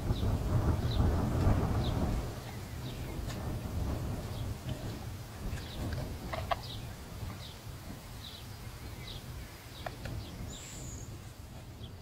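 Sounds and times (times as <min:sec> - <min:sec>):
birds chirping: 0:00.0 - 0:12.0
steady low rumble: 0:00.0 - 0:12.0.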